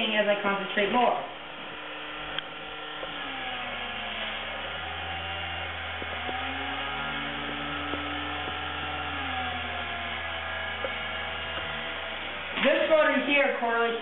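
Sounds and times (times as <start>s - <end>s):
small motors whining: 0.4s - 14.0s.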